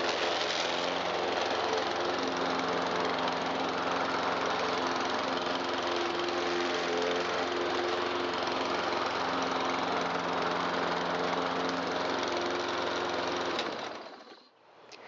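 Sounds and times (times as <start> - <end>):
lawn mower engine running: 0.0 - 14.5.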